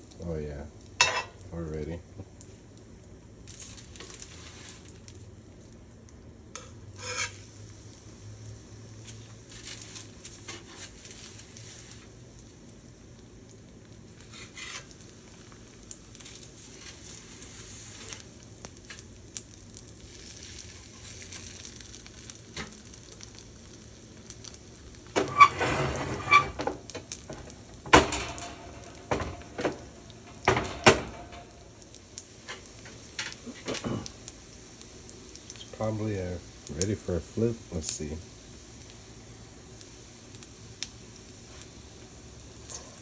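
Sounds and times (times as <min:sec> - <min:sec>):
croquettes sizzling in frying pan: 0:00.0 - 0:43.0.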